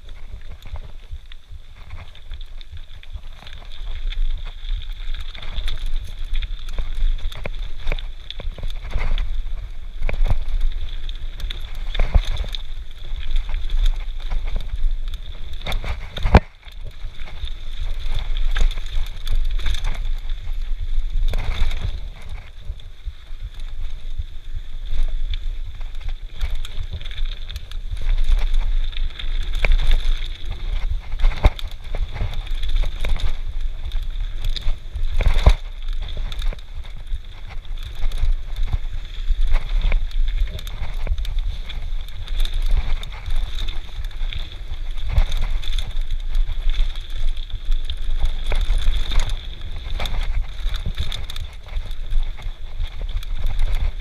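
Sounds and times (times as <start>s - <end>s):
bike tyre noise: 0.0s - 54.0s
wind on microphone: 0.0s - 54.0s.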